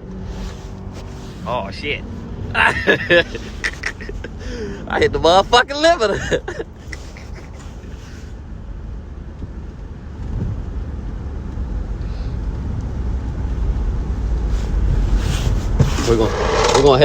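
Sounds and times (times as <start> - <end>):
car engine rumble from inside cabin: 0.0 - 17.0.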